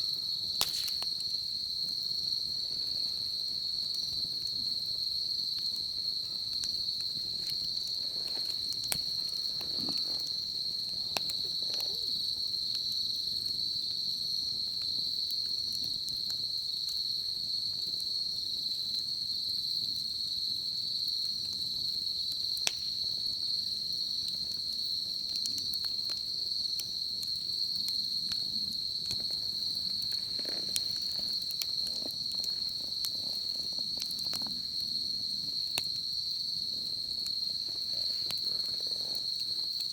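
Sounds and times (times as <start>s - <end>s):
bonfire crackling and popping: 0.0s - 39.9s
insects chirring: 0.0s - 39.9s.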